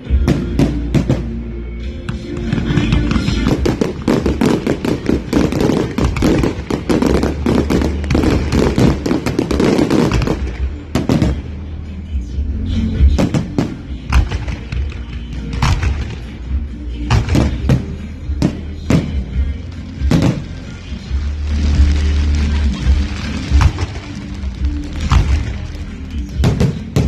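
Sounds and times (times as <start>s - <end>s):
firecrackers crackling and banging: 0.0s - 11.8s, 13.1s - 27.0s
music: 0.0s - 27.0s.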